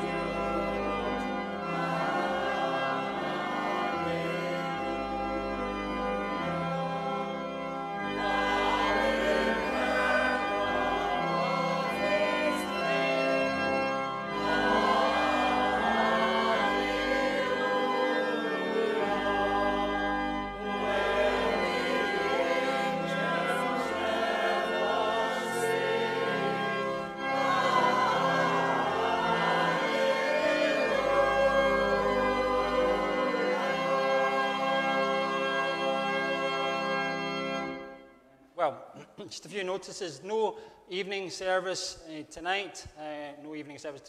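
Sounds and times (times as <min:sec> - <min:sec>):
choir singing a hymn: 0:00.0 - 0:38.1
organ: 0:00.0 - 0:44.0.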